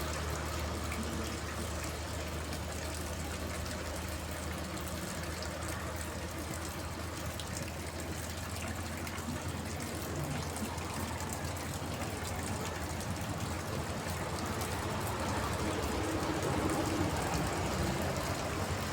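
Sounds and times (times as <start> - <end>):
rain pattering on water tank: 0.0 - 18.9
water trickling: 0.0 - 18.9.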